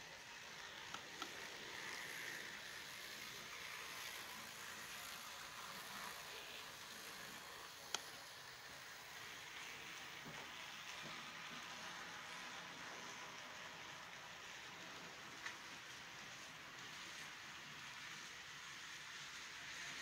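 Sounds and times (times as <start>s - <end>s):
model train running hiss: 0.0s - 20.0s.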